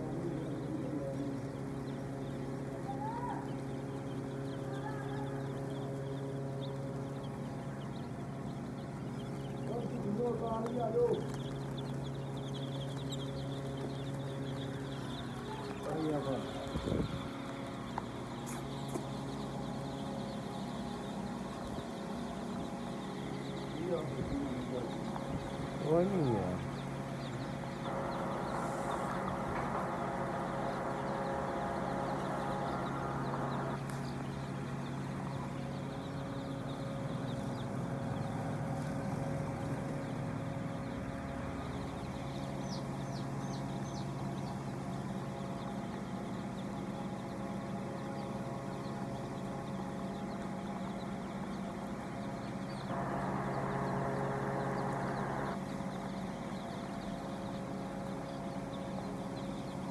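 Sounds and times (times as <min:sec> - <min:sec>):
motor hum: 0:00.0 - 0:59.9.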